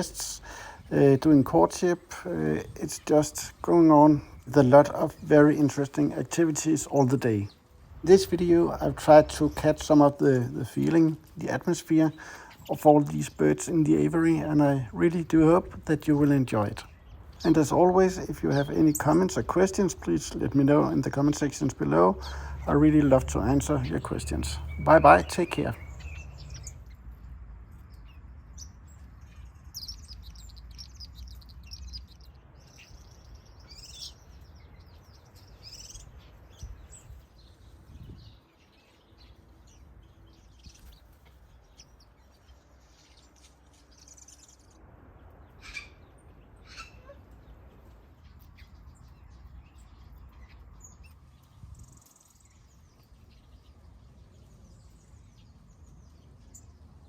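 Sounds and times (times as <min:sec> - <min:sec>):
small birds chirping and calling: 0:00.0 - 0:57.0.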